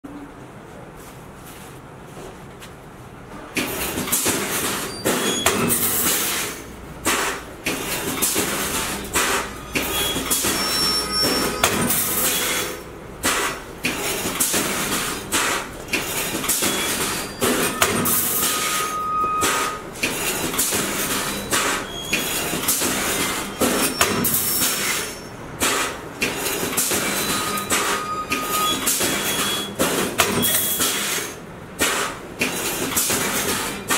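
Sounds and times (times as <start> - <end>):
welding machine clattering and clanking: 3.4 - 33.9.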